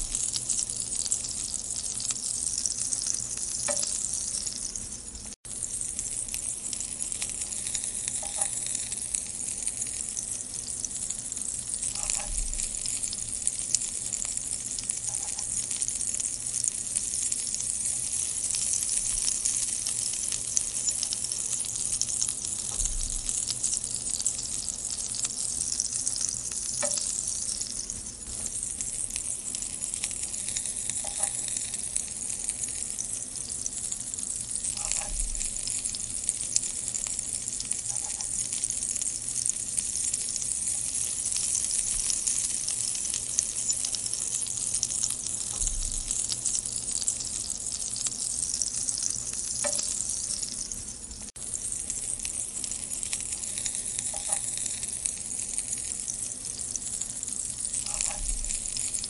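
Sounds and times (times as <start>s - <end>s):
chillies sizzling in hot oil: 0.0s - 59.0s.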